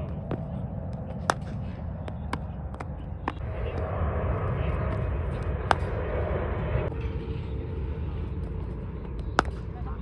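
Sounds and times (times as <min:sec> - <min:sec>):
engine drone: 0:00.0 - 0:10.0.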